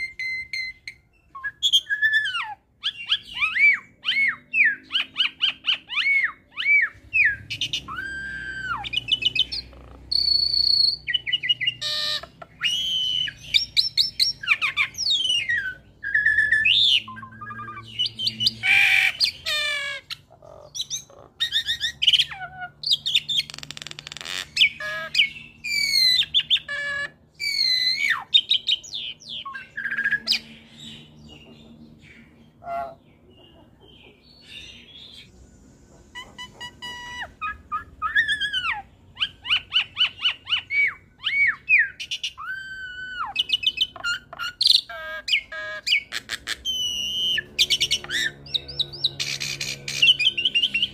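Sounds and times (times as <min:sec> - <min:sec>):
bird singing chattering song: 0:00.0 - 0:50.9.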